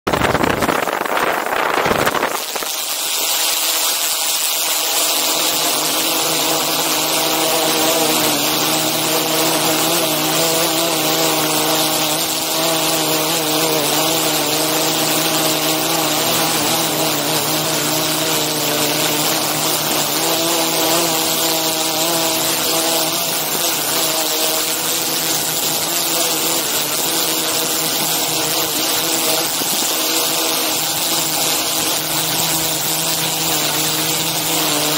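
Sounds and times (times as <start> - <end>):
drone propellers whining: 4.4 - 34.9.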